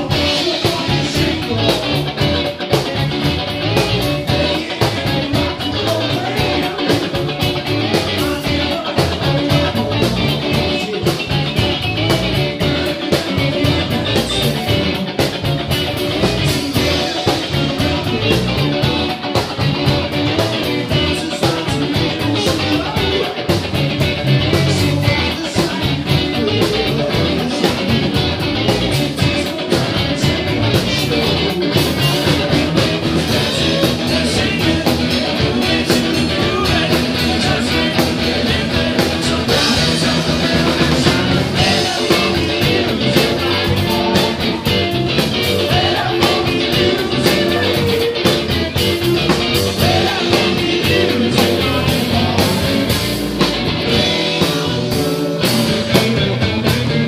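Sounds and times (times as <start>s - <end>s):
person singing: 0.0s - 56.7s
electric guitar through amp: 0.0s - 57.0s
live rock band: 0.0s - 57.0s.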